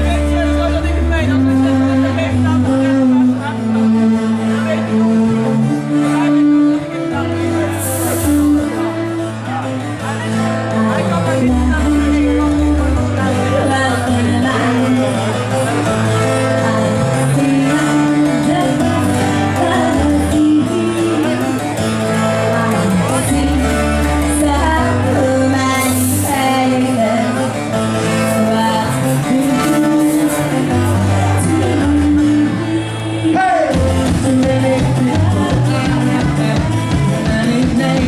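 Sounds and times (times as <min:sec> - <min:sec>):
live band playing: 0:00.0 - 0:38.0
person singing: 0:00.0 - 0:38.0.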